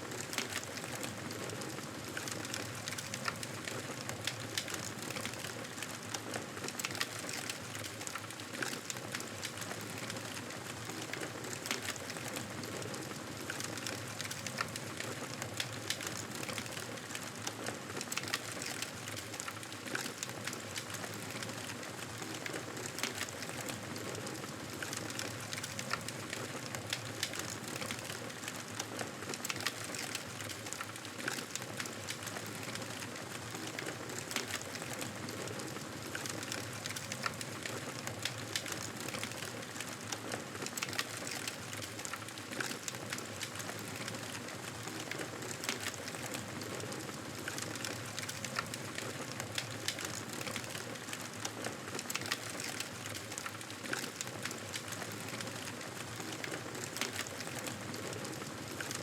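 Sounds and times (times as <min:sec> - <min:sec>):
wood fire crackling: 0:00.1 - 0:59.0.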